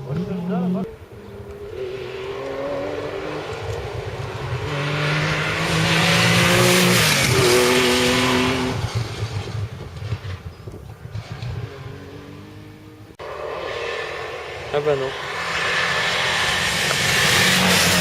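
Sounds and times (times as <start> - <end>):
rally car passing at high revs: 0.0 - 10.4, 11.0 - 18.0.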